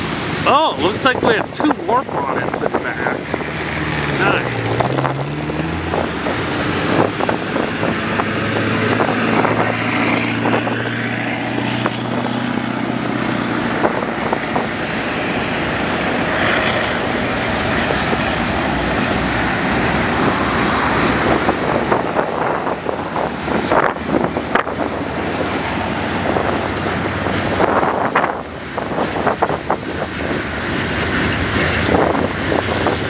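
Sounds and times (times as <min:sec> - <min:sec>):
large engine humming: 0:00.0 - 0:33.0
vehicle noise: 0:00.0 - 0:33.0
wind rushing: 0:00.0 - 0:33.0.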